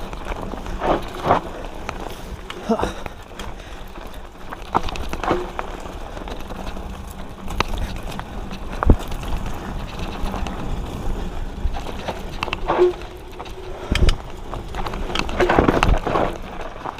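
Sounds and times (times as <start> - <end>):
bike clicks and knocks: 0.0 - 16.9
bike tyres rumbling on dirt: 0.0 - 16.9.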